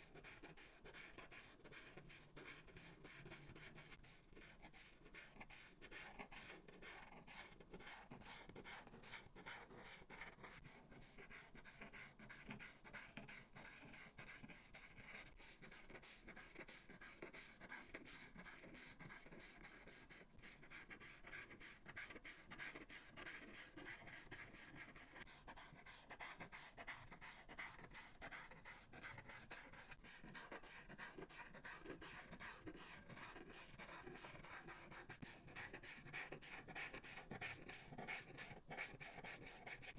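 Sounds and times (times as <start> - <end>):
markers rubbing on paper: 0.0 - 39.9.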